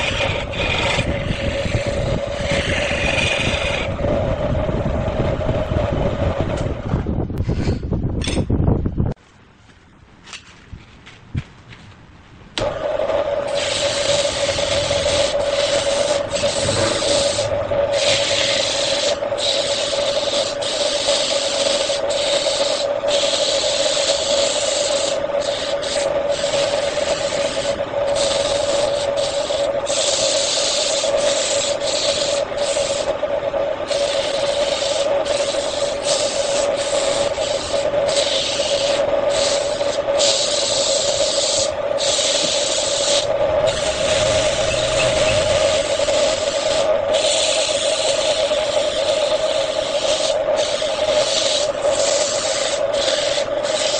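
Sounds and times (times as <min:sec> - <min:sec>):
rubbing hiss on spinning wood: 0:00.0 - 0:04.0, 0:13.4 - 0:53.9
wood lathe humming: 0:00.0 - 0:06.8, 0:12.6 - 0:53.9.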